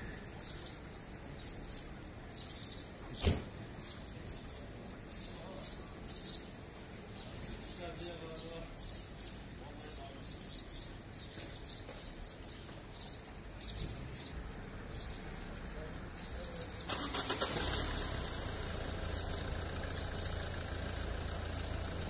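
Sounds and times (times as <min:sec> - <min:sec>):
swallows chirping: 0:00.0 - 0:22.0.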